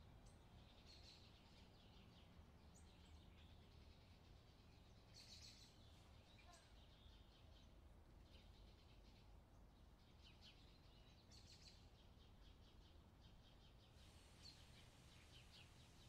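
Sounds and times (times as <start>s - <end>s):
faint birdsong chirps: 0.2s - 16.0s.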